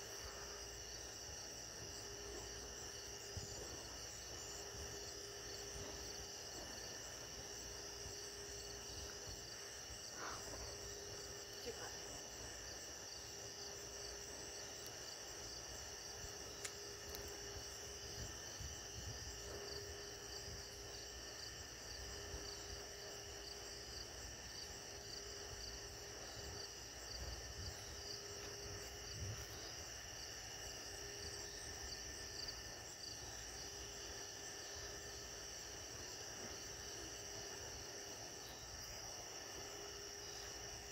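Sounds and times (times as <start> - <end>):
insects trilling: 0.0 - 40.9
low insect drone: 0.0 - 40.9.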